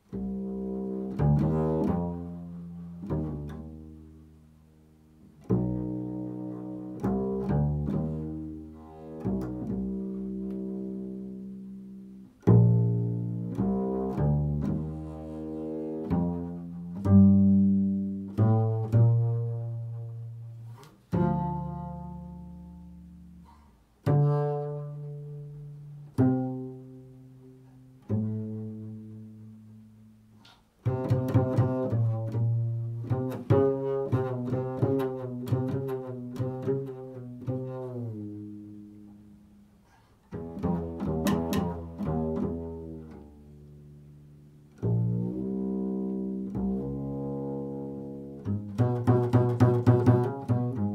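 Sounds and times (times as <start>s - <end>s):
plucked double bass: 0.0s - 50.9s.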